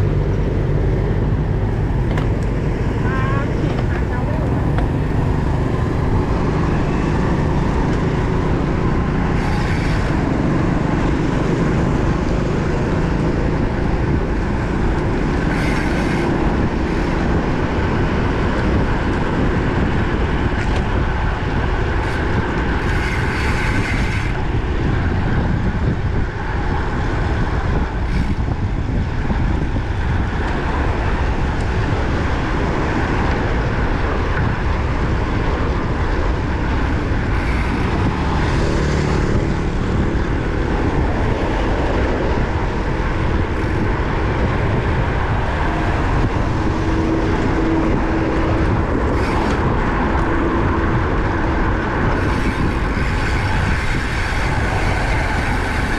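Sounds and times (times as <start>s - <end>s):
tyre and road noise: 0.0s - 55.9s
wind rushing over microphone: 0.0s - 55.9s.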